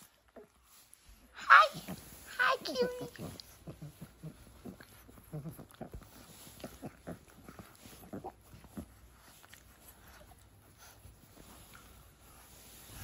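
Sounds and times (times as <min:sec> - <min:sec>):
puppy grunting and snuffling: 0:01.7 - 0:13.0.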